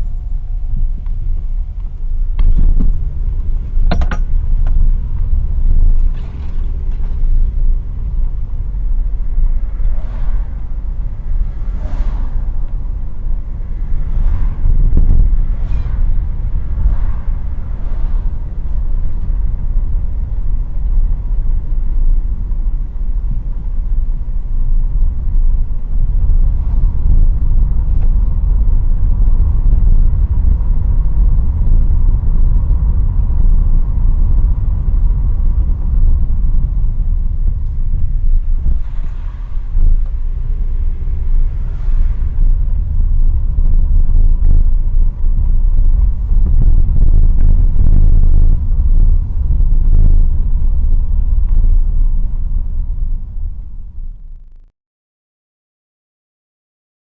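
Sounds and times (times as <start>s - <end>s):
car engine and road rumble: 0.0s - 54.7s.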